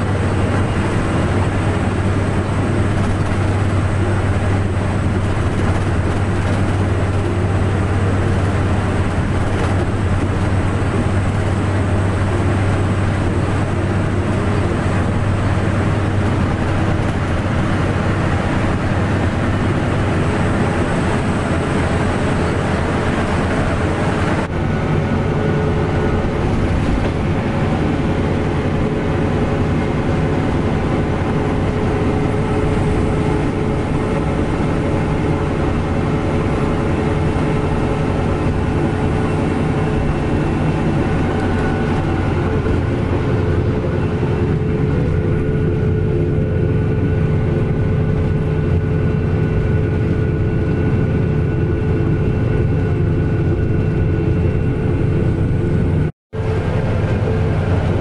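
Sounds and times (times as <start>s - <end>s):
bus engine and road drone: 0.0s - 58.0s.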